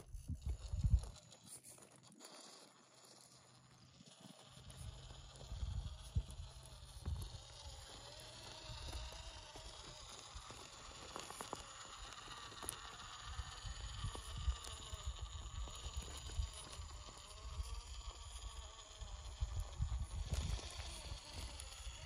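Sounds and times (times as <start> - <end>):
small electric motor whining: 0.0 - 22.0
tyres clicking on loose rock: 0.0 - 22.0.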